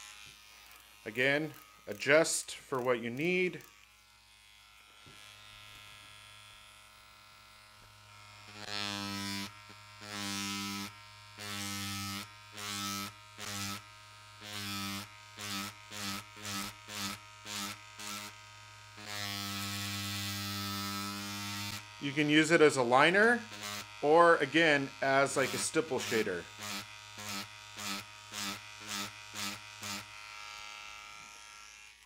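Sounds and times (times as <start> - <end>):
tattoo machine buzzing: 0.0 - 32.0.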